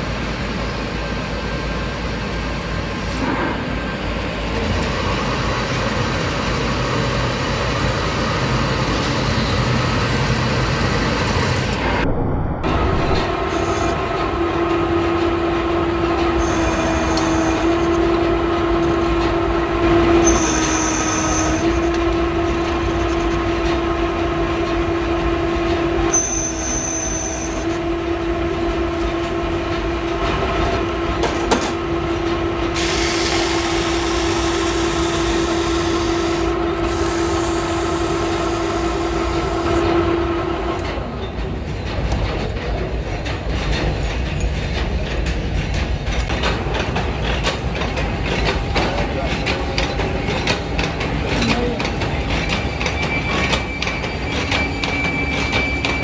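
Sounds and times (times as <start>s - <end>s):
factory machinery whine: 0.0s - 56.0s.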